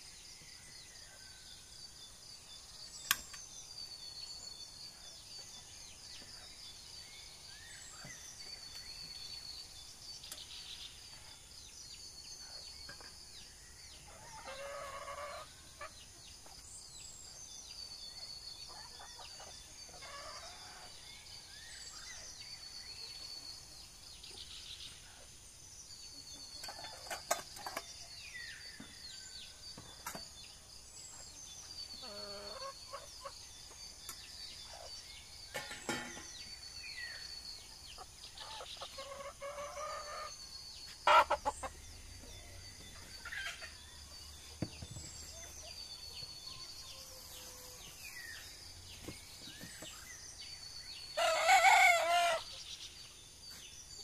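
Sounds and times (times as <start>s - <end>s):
bird chirps: 0.0s - 54.0s.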